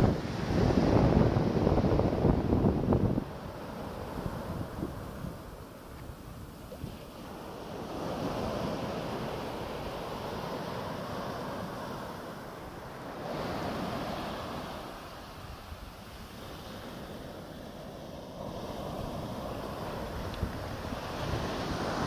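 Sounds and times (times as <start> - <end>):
small waves breaking on sand: 0.0 - 22.0
wind rumble on microphone: 0.0 - 22.0.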